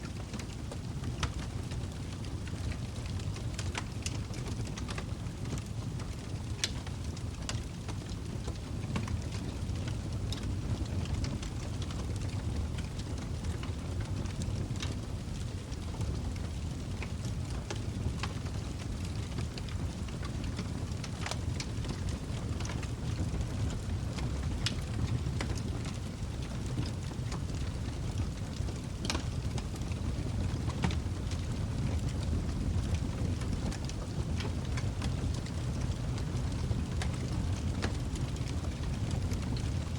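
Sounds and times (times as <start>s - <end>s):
fire flames rumbling: 0.0s - 39.9s
burning wood crackling: 0.1s - 39.9s.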